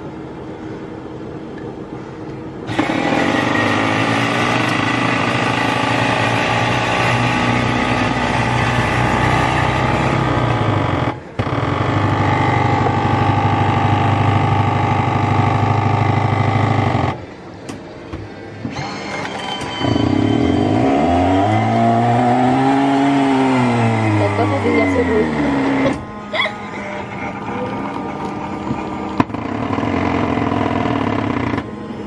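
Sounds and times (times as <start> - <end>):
coffee machine humming: 0.0 - 32.0.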